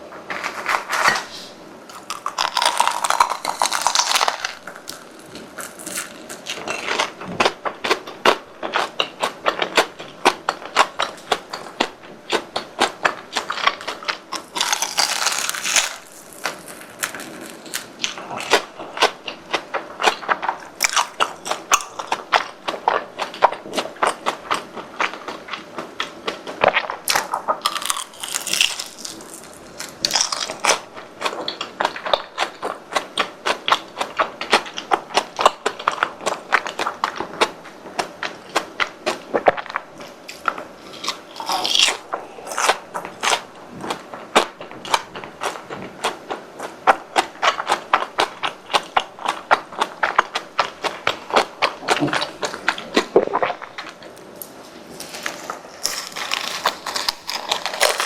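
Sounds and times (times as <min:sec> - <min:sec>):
crunchy chewing: 0:00.3 - 0:58.0.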